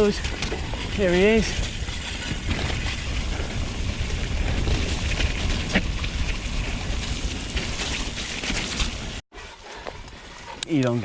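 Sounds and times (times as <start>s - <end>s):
wind buffeting: 0.0s - 9.2s
bike rattling over rough trail: 0.0s - 11.0s.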